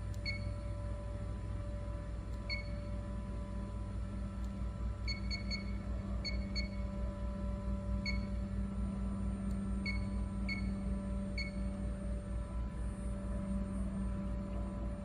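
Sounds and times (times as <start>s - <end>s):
machine hum with low throb: 0.0s - 15.0s.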